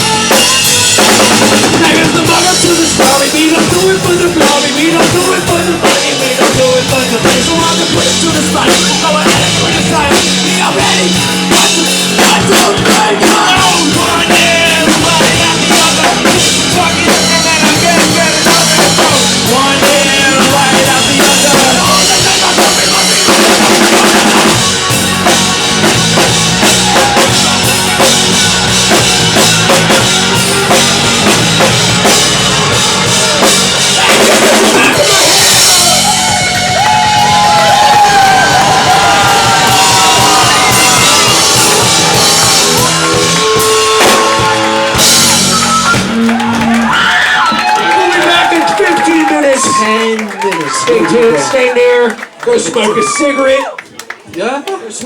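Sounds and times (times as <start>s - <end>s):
drum kit with bass drum: 0.0s - 51.5s
live rock band playing: 0.0s - 53.2s.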